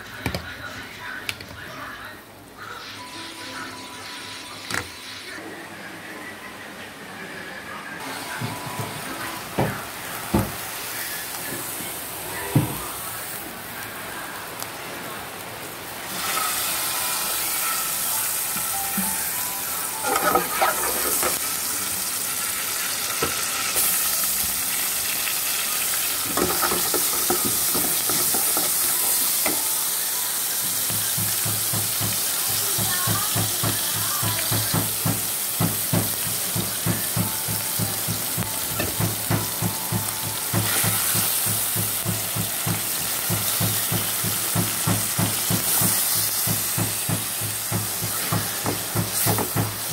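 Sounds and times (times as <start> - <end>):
oil sizzling in a wok: 8.0 - 49.9.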